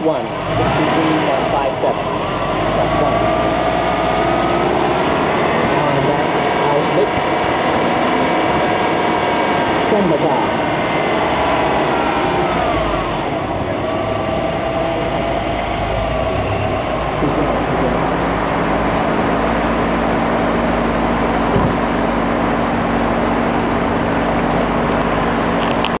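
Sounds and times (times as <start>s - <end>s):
car engine idling: 0.0s - 26.0s
car rolling forward: 0.0s - 26.0s.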